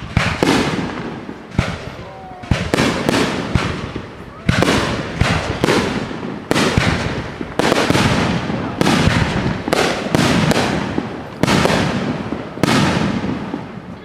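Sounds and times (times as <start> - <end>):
fireworks shells bursting: 0.0 - 13.9.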